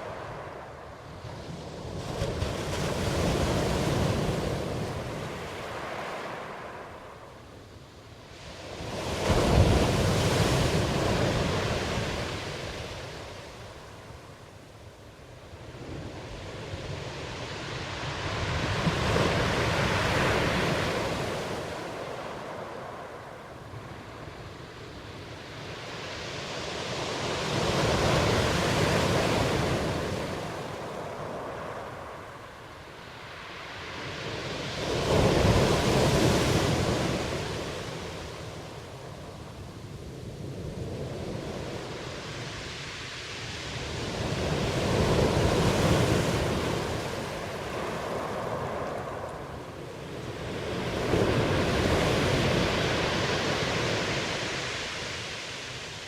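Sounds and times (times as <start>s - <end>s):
ocean waves breaking: 0.0s - 7.5s, 8.2s - 14.6s, 15.5s - 56.0s.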